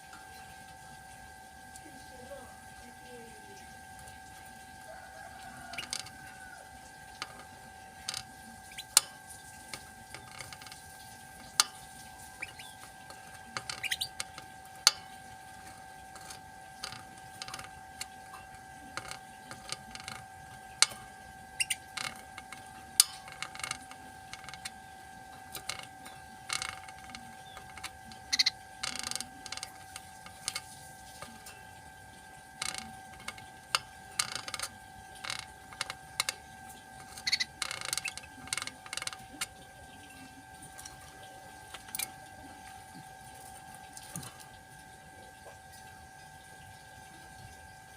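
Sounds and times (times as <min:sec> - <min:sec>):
high-pitched hum: 0:00.0 - 0:47.8.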